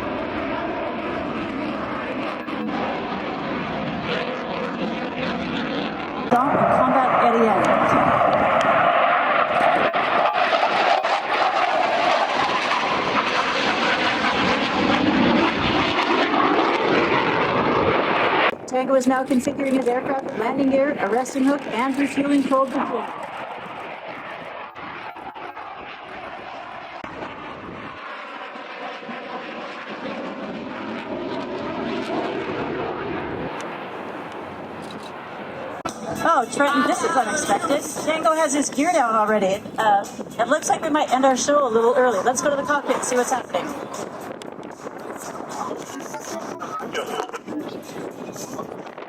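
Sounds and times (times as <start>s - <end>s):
fighter jet engines rushing: 0.0s - 49.0s.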